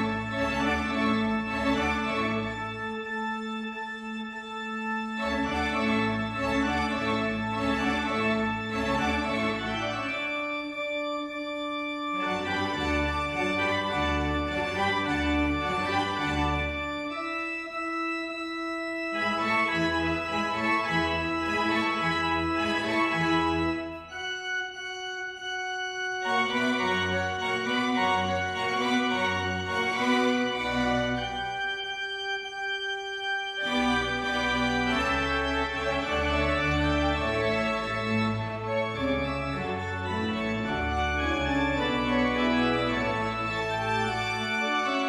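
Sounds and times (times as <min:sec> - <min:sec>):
church organ music: 0:00.0 - 0:45.0.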